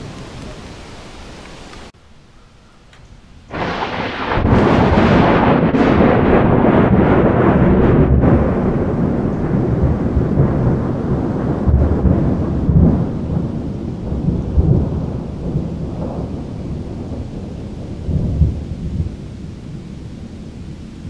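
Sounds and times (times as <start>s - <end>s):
thunder rumbling: 3.4s - 21.0s.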